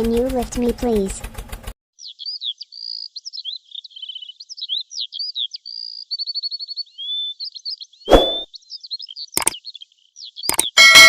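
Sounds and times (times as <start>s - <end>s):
songbird chirps and trills: 2.0s - 11.0s.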